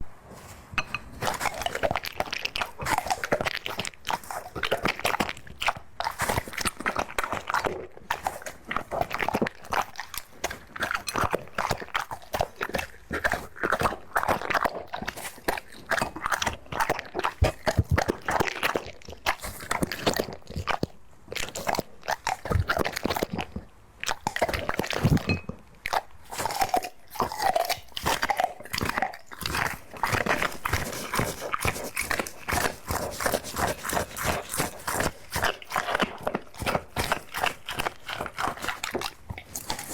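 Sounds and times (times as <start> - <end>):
dog chewing and crunching food: 0.0 - 39.9.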